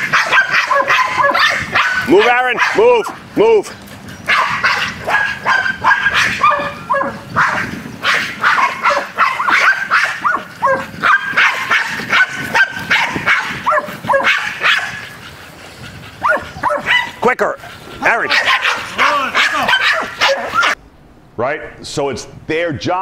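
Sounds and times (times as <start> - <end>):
dogs barking rapidly: 0.0 - 20.8.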